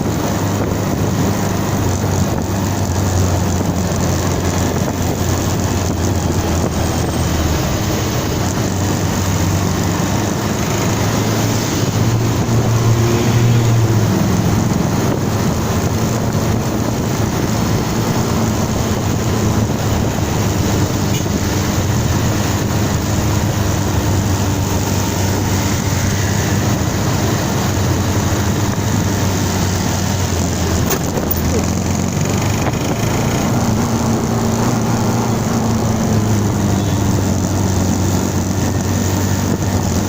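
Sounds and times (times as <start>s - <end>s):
constant rushing noise: 0.0s - 40.0s
motorcycle engine humming: 0.0s - 40.0s.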